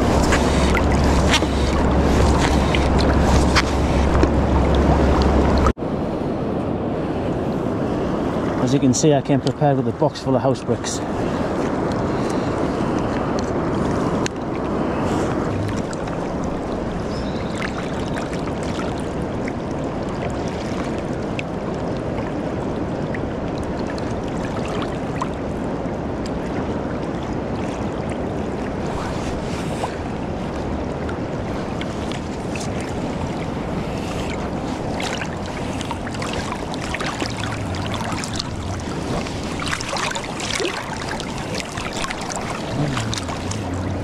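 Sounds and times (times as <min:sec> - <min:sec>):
river water rushing: 0:00.0 - 0:06.0, 0:13.7 - 0:25.7, 0:26.4 - 0:44.0
wind noise: 0:00.0 - 0:09.0, 0:11.0 - 0:44.0.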